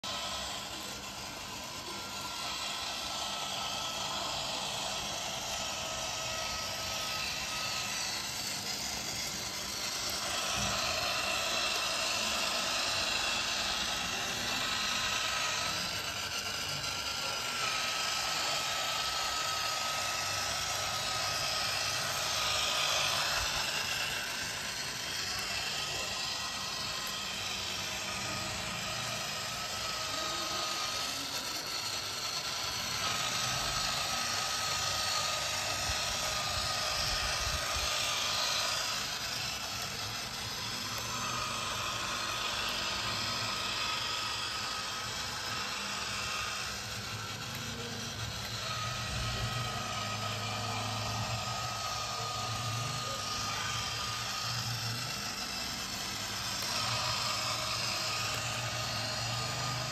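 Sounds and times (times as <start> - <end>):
toy train motor whining: 0.0 - 59.9.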